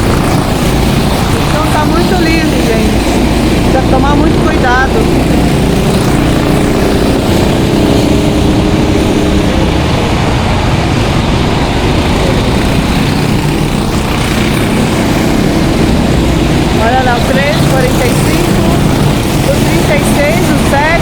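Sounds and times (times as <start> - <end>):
racing kart engines: 0.0 - 21.0.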